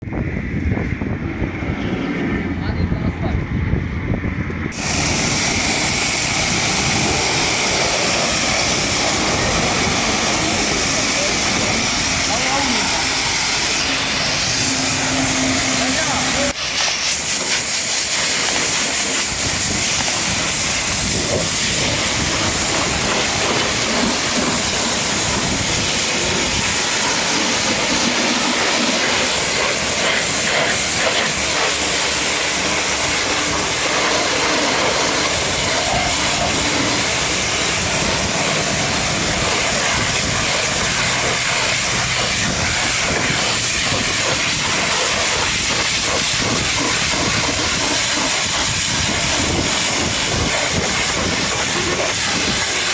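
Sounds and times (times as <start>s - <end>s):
pressure washer spray hiss: 4.7s - 52.9s.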